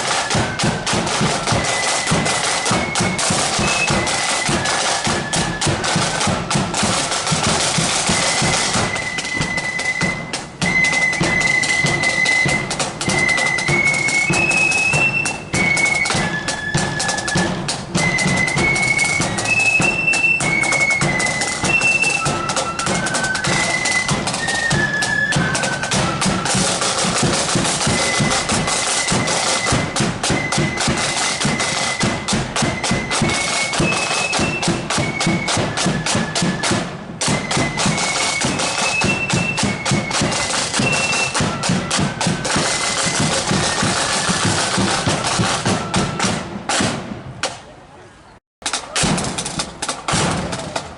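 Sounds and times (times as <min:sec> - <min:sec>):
flutes playing melody: 0:00.0 - 0:46.8
side drums and bass drum: 0:00.0 - 0:47.6, 0:48.6 - 0:50.9.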